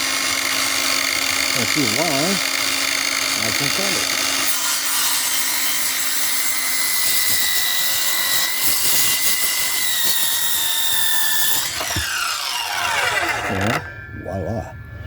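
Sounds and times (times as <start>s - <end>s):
circular saw cutting wood: 0.0s - 14.1s.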